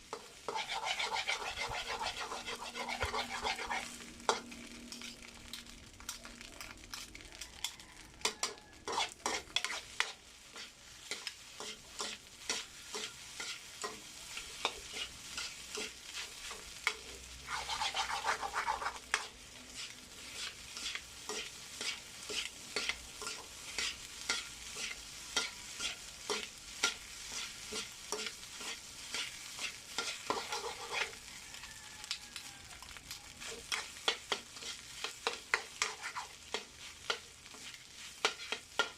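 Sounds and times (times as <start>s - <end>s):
food sizzling: 0.0s - 38.9s
spatula scraping a pan: 0.1s - 5.6s, 6.2s - 31.2s, 33.0s - 38.9s.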